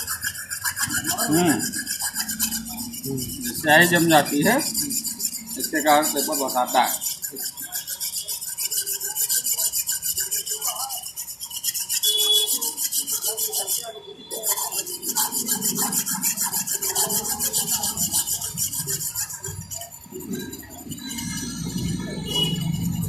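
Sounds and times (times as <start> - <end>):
rhythmic scraping on roller: 0.0 - 23.0.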